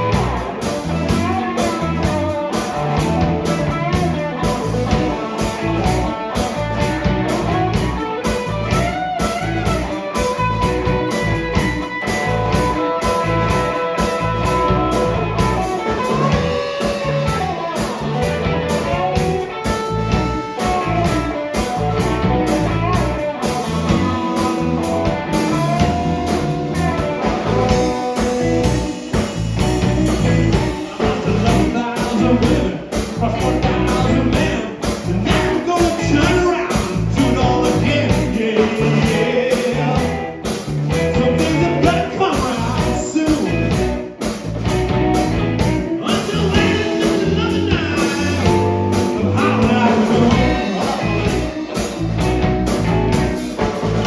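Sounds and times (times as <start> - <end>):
bass guitar: 0.0 - 54.0
electric guitar lead lines: 0.0 - 54.0
steady drum beat: 0.0 - 54.0.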